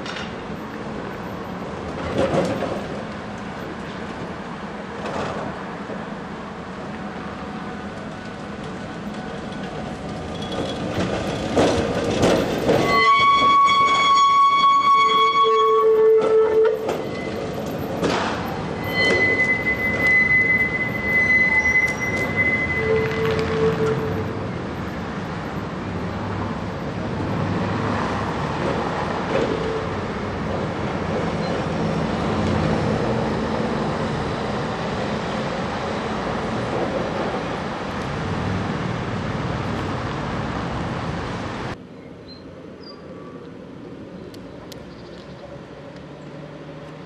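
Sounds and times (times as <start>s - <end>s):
tram rolling rumble: 0.0s - 47.0s.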